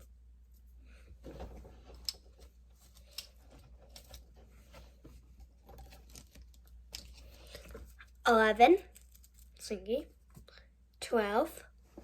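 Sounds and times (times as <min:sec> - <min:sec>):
plastic toys rustling: 0:00.6 - 0:10.5.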